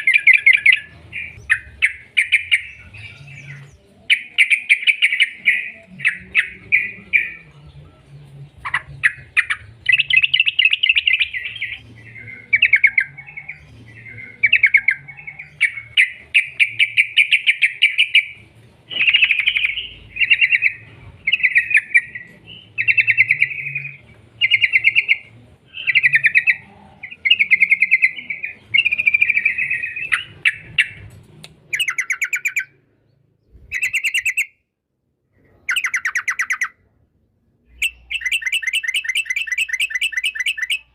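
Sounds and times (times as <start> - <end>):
bird chattering song: 0.0 - 34.6, 35.5 - 36.8, 37.6 - 40.9.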